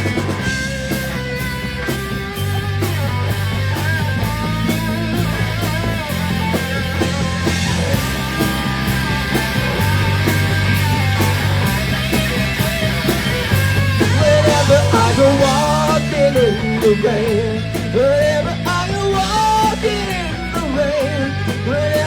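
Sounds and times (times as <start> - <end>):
bass line: 0.0 - 22.0
electric guitar: 0.0 - 22.0
steady drum beat: 0.0 - 22.0.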